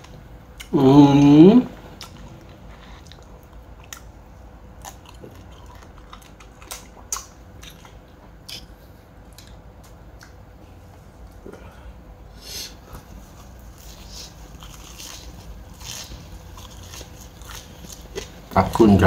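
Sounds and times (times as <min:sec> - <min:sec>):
person chewing: 0:00.0 - 0:11.8, 0:12.4 - 0:19.0.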